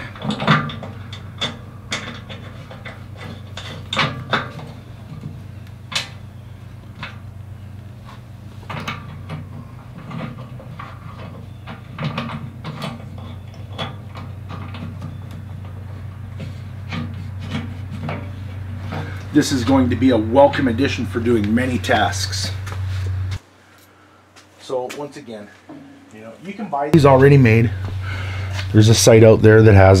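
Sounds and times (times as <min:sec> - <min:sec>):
steady low hum: 0:00.0 - 0:24.4, 0:25.4 - 0:30.0.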